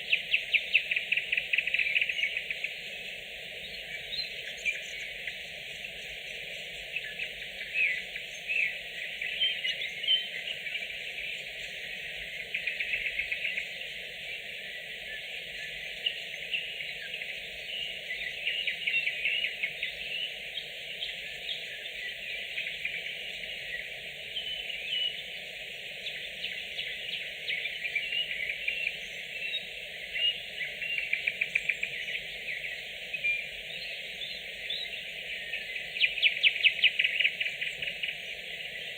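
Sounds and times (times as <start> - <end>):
background bird chorus: 0.0 - 38.9
nightingales singing: 0.0 - 38.9.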